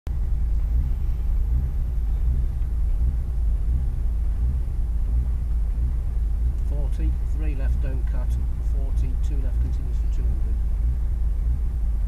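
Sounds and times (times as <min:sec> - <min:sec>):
car engine rumbling with misfire: 0:00.1 - 0:12.0.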